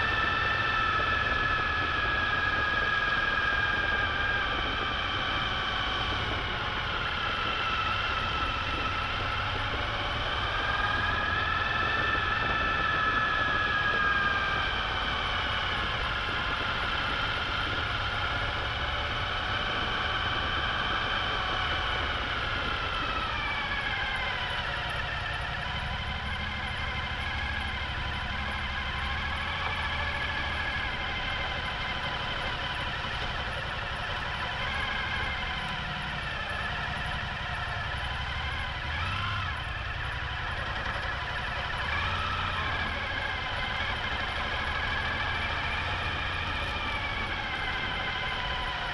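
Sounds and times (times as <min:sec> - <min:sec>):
motorcycle engine running: 0:05.2 - 0:48.9.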